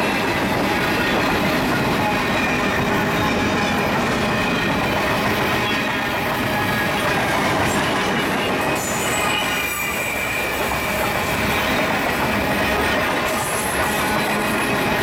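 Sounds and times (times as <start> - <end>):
high wheel squeal: 0.0 - 15.0
train wheels rumbling on rails: 0.0 - 15.0.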